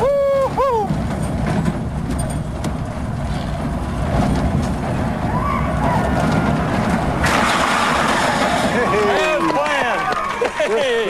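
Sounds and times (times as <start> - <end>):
coaster train rumbling on track: 0.0 - 11.0.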